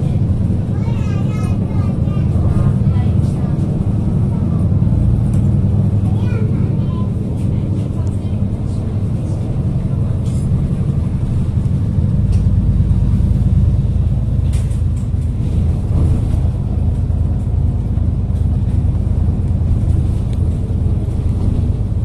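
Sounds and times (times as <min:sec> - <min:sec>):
bus engine drone: 0:00.0 - 0:22.0
road rumble: 0:00.0 - 0:22.0.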